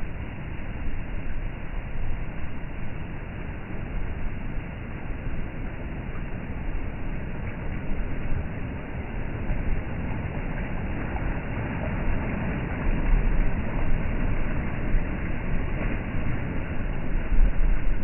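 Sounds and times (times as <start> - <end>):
sea waves washing: 0.0 - 18.0.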